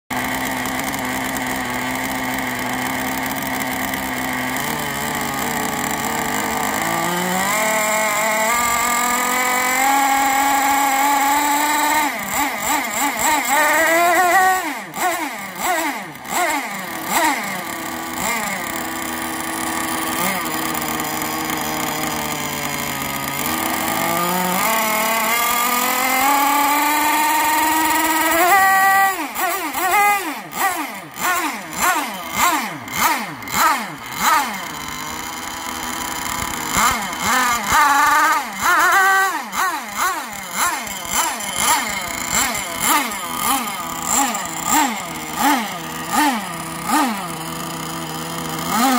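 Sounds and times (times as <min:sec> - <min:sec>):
model boat engine revving: 0:00.1 - 0:48.9.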